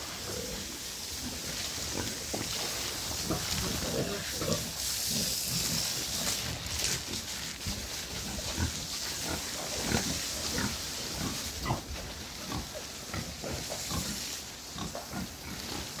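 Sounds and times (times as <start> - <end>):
pigs grunting and squealing: 0.0 - 16.0
steady high hiss: 0.0 - 16.0.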